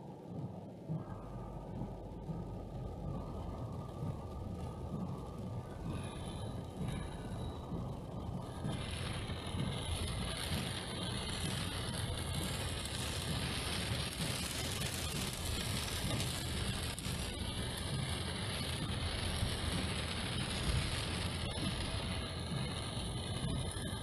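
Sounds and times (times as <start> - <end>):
engine and road rumble: 0.8 - 24.0
hiss of wet tyres and rain: 1.2 - 24.0.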